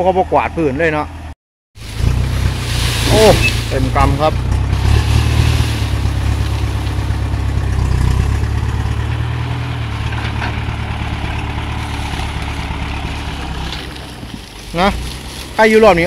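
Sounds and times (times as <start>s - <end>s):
tractor engine running: 0.1s - 16.0s.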